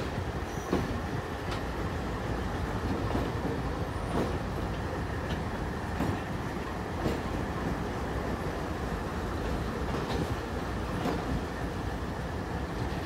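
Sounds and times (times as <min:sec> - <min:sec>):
low locomotive engine rumble: 0:00.0 - 0:13.0.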